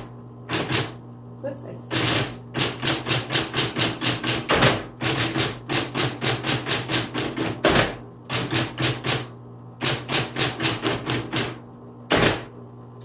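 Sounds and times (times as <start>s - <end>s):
typewriter motor hum: 0.0s - 1.1s, 1.9s - 12.6s
typewriter keystrokes: 0.5s - 1.0s, 1.9s - 12.5s.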